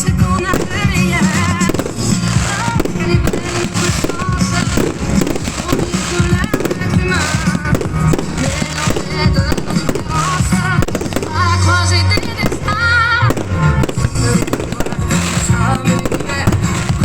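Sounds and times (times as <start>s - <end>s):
fireworks banging and crackling: 0.0s - 17.0s
pop music with singer: 0.0s - 17.0s.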